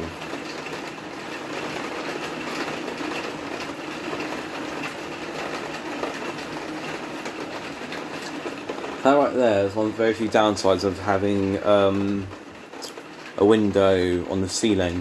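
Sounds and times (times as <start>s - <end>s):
heavy rain on a skylight: 0.0s - 15.0s.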